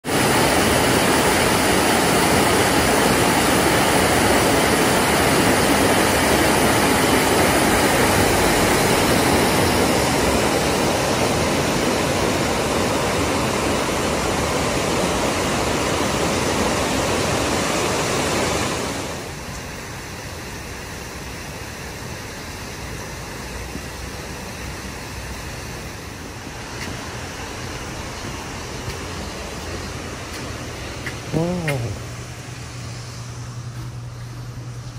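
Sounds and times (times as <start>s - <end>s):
stream rushing over rocks: 0.0s - 32.2s.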